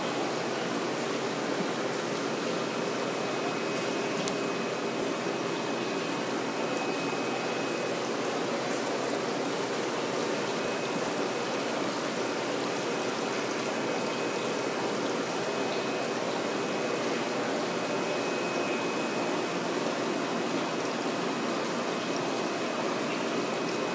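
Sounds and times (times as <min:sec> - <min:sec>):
water pouring into a tank: 0:00.0 - 0:23.9.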